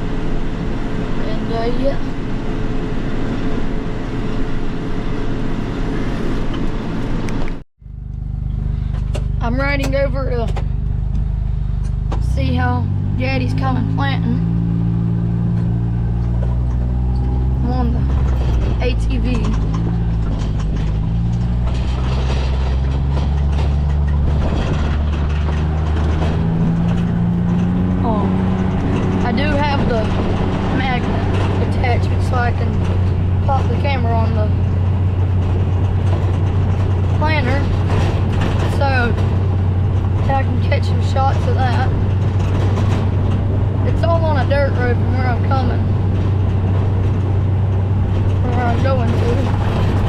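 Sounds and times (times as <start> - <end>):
machine rattling over rough ground: 0.0 - 50.0
tractor engine drone: 0.0 - 50.0.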